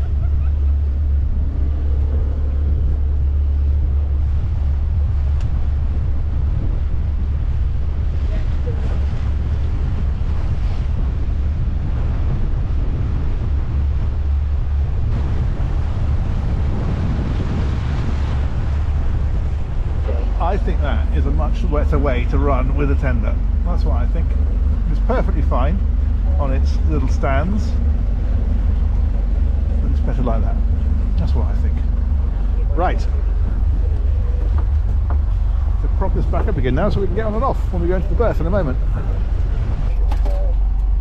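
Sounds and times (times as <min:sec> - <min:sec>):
motor boat engine drone: 0:00.0 - 0:41.0
water rushing along hull: 0:00.0 - 0:41.0
wind buffeting microphone: 0:00.0 - 0:41.0.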